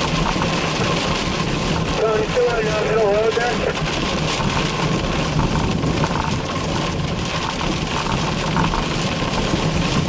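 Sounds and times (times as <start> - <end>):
car engine hum: 0.0 - 10.0
rain noise: 0.0 - 10.0
road noise: 0.0 - 10.0.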